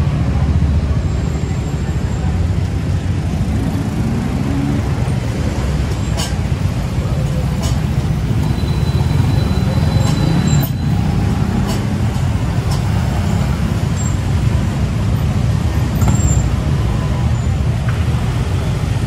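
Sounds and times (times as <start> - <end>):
traffic engines rumbling: 0.0 - 19.0.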